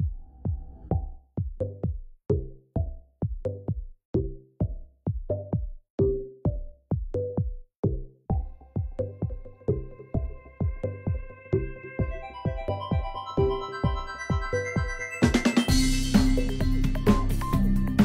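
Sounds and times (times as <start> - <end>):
electronic music with drum-machine beat: 0.0 - 18.0.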